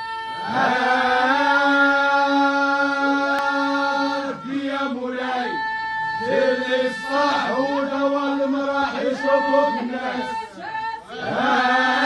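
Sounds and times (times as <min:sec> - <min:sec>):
men chanting in unison: 0:00.4 - 0:12.0.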